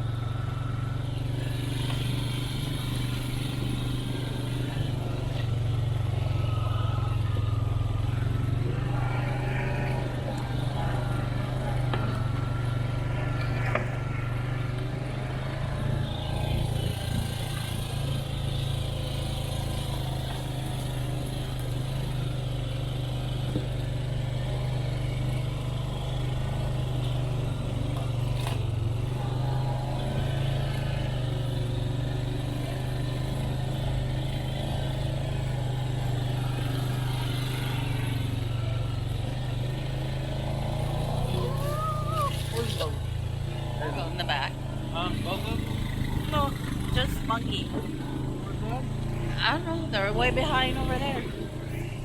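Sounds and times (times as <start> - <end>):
four-wheeler engine humming: 0.0 - 52.0.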